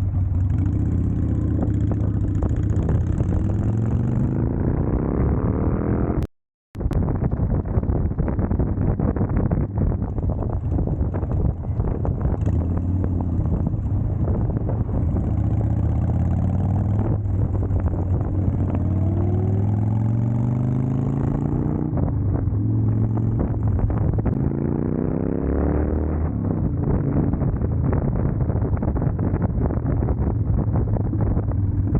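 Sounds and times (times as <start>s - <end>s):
road rumble: 0.0s - 31.9s.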